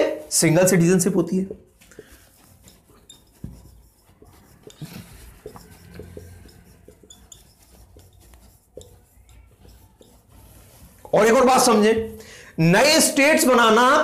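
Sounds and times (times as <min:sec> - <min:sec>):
marker scratching on whiteboard: 0:00.0 - 0:13.8.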